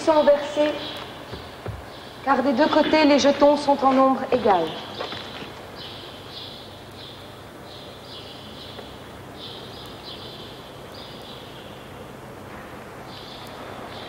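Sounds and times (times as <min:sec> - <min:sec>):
insects chirping in buzzy trills: 0:00.0 - 0:14.0.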